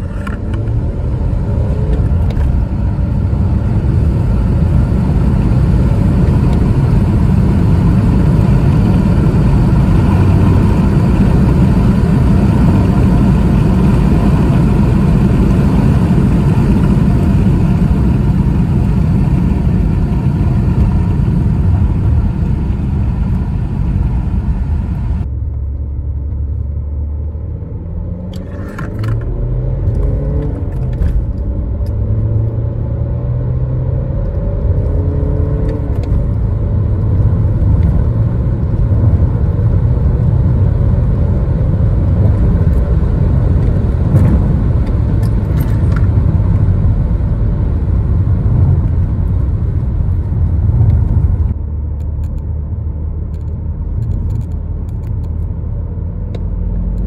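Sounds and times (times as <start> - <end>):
diesel engine accelerating: 0.0 - 57.0.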